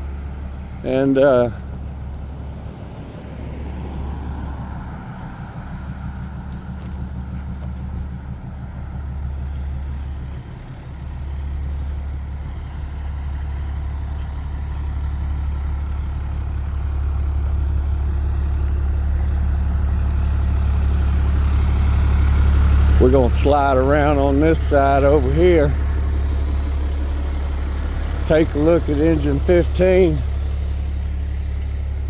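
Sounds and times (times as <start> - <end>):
fire engine diesel engine idling: 0.0 - 32.0.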